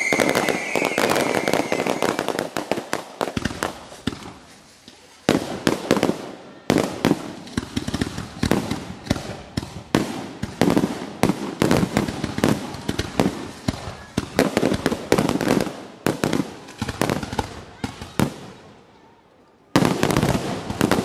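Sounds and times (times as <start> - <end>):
fireworks bursting and crackling: 0.0 - 21.0.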